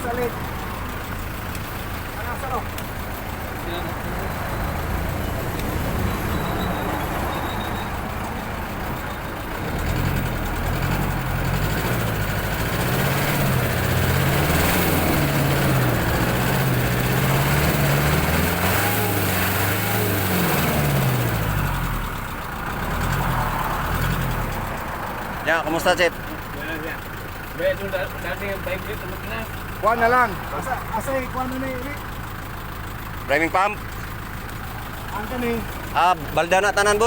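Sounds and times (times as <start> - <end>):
diesel engine idling and revving: 0.0 - 37.0.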